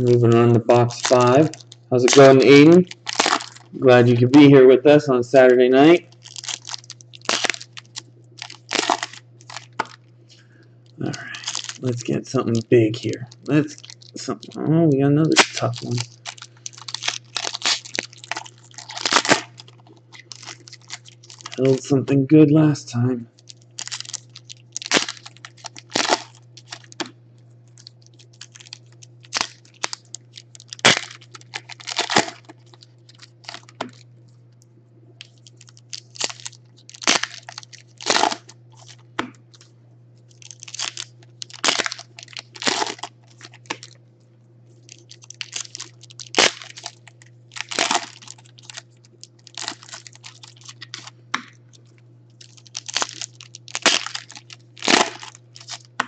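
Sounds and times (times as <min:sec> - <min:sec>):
foil packs crinkling and tearing: 0:00.0 - 0:04.6, 0:05.3 - 0:21.9, 0:23.4 - 0:27.1, 0:27.7 - 0:34.0, 0:35.2 - 0:39.7, 0:40.3 - 0:44.0, 0:44.8 - 0:56.0
steady low hum: 0:00.0 - 0:56.0.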